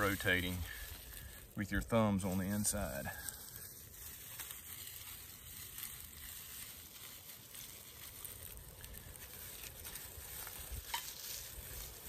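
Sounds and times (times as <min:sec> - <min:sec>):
dry pine needles crackling: 0:00.0 - 0:12.0.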